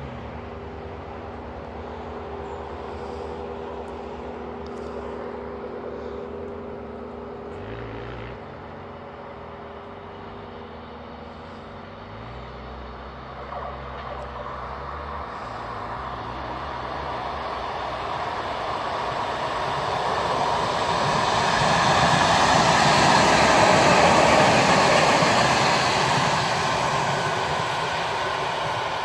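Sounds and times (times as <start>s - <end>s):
steady low drone: 0.0s - 7.6s, 12.7s - 29.0s
train wheels rushing on rails: 0.0s - 7.9s, 13.4s - 29.0s.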